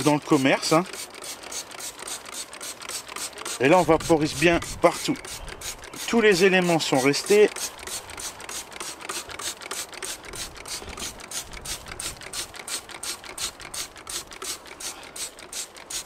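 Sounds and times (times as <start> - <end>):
spray bottle hissing sprays: 0.0 - 16.0.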